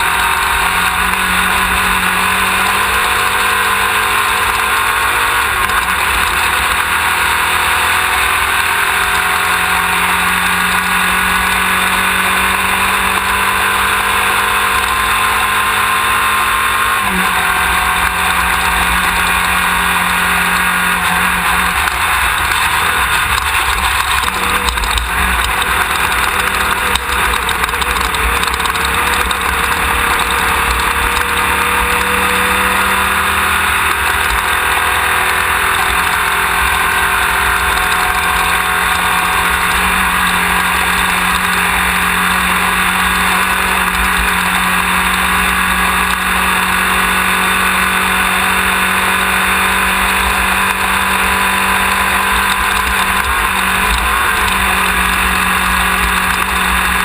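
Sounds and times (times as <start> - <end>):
race car engine under load: 0.0 - 57.0
road and wind noise: 0.0 - 57.0.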